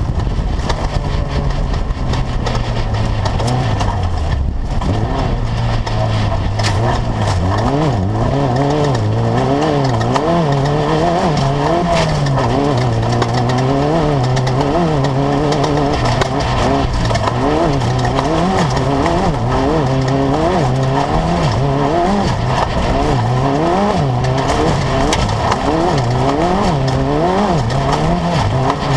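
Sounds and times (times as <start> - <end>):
buggy engine revving: 0.0 - 28.9
knocks and rattles: 0.0 - 28.9.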